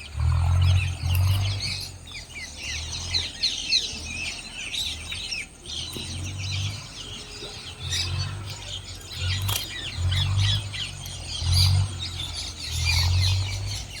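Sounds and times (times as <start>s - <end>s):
low rumbles: 0.0s - 14.0s
small birds chirping: 0.0s - 14.0s.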